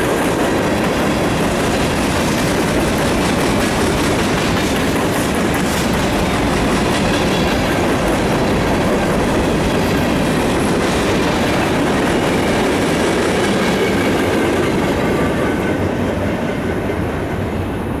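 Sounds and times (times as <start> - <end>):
freight train wheels clattering on rail: 0.0 - 18.0.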